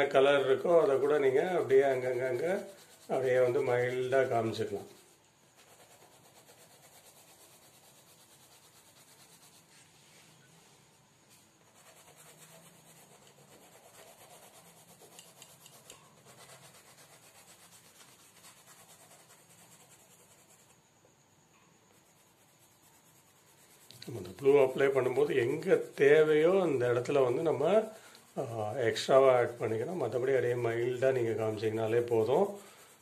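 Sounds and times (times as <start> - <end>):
colour pencil scratching on paper: 0.0 - 10.2, 11.3 - 20.9, 21.8 - 33.0.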